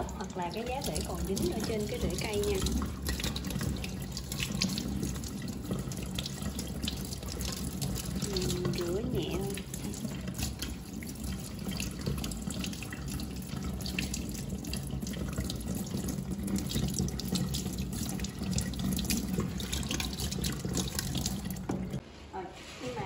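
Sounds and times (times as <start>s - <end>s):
tap water running into steel sink: 0.0s - 22.0s.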